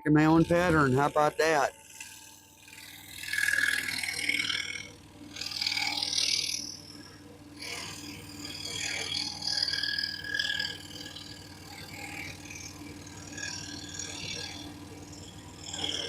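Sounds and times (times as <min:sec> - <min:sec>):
scroll saw cutting flooring: 0:00.1 - 0:16.0.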